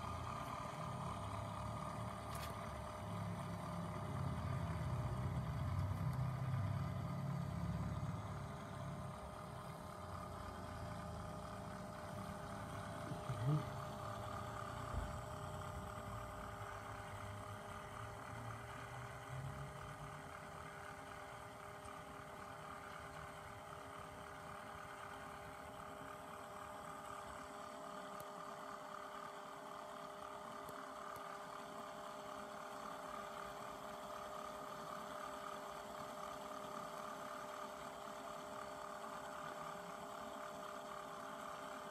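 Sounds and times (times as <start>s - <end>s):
electric motor hum: 0.0s - 41.9s.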